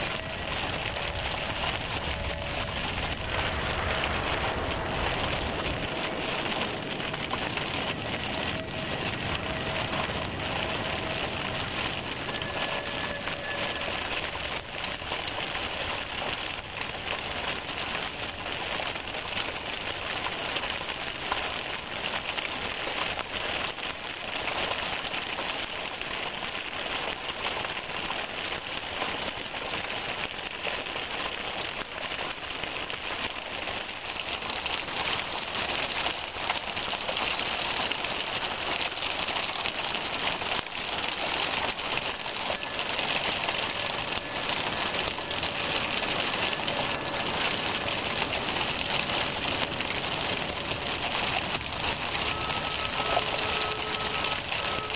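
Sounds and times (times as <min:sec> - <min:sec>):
waterfall splashing into pool: 0:00.0 - 0:54.9.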